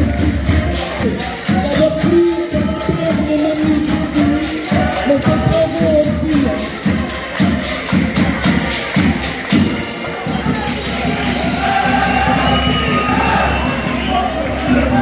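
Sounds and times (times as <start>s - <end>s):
steady drum beat: 0.0s - 14.3s
tambourine jingle: 0.0s - 14.3s
folk dance music: 0.0s - 15.0s.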